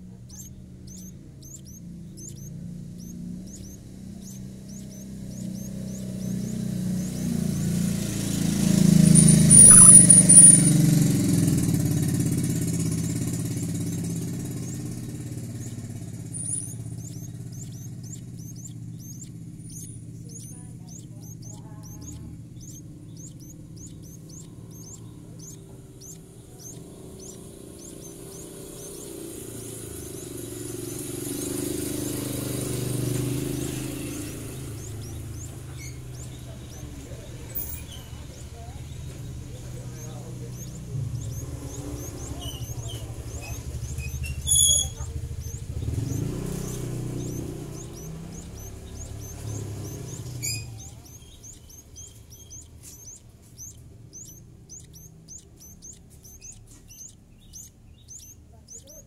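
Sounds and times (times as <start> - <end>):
faint regular high ticking: 0.0 - 59.0
vehicle engine rumble passing: 0.0 - 59.0.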